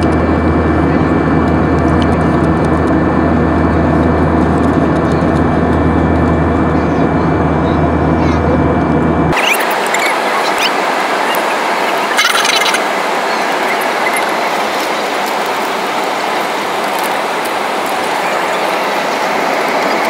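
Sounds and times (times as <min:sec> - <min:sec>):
airplane cabin engine roar: 0:00.0 - 0:20.0.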